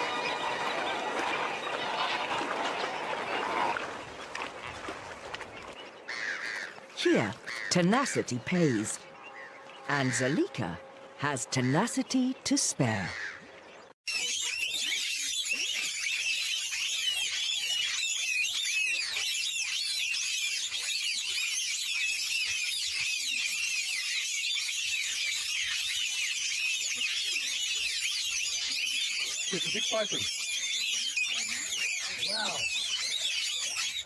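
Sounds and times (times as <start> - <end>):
small birds chirping and twittering: 0.0 - 34.0.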